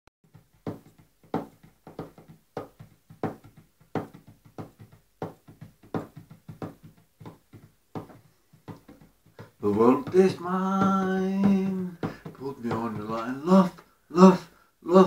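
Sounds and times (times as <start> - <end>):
hands drumming on wooden table: 0.2 - 13.9.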